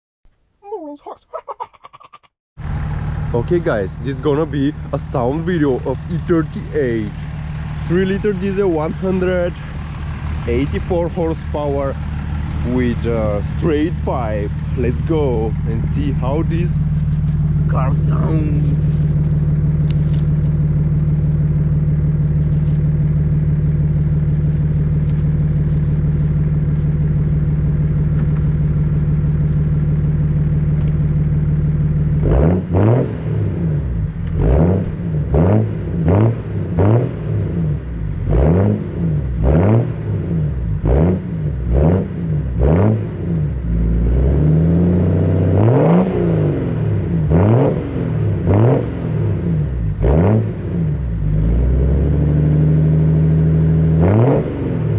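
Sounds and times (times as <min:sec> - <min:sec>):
diesel engine idling and revving: 0:02.6 - 0:54.9.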